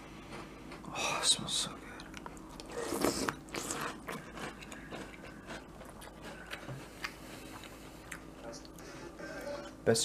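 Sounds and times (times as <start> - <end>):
cereal crunching while chewed: 0.1 - 8.9.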